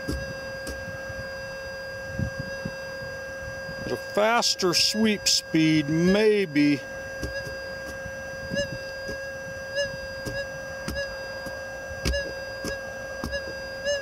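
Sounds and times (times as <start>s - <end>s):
metal detector hum: 0.0s - 14.0s.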